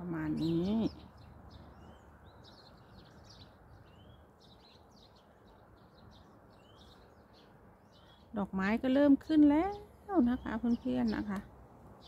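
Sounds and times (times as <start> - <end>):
songbirds chirping and whistling: 0.0 - 12.0.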